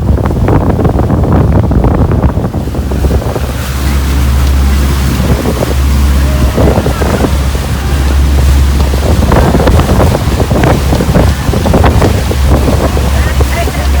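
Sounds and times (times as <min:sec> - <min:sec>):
sea water and waves rushing: 0:00.0 - 0:14.0
wind buffeting microphone: 0:00.0 - 0:14.0.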